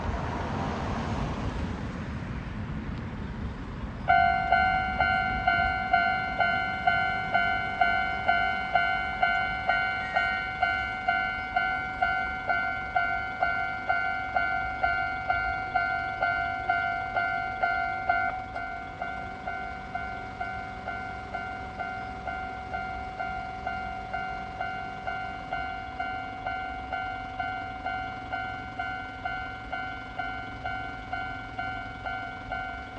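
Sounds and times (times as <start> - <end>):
level crossing bell clanging: 4.1 - 32.9.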